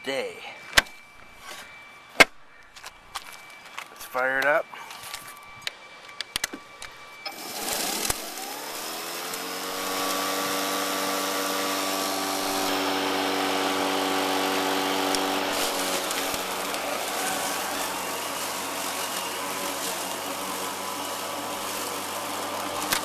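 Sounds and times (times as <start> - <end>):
lawn mower motor whine and hum: 0.7 - 23.0.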